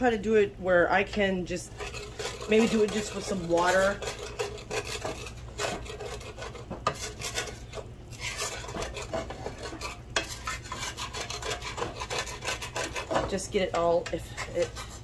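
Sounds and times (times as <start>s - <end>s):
wooden spatula scraping frying pan: 1.6s - 15.0s.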